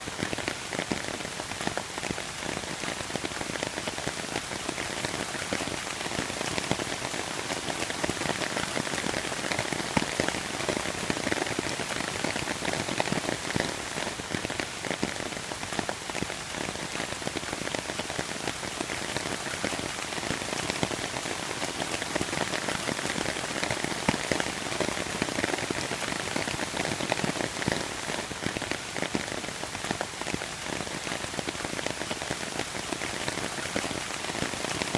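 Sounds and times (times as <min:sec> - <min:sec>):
rain pattering on hard surfaces: 0:00.0 - 0:34.9.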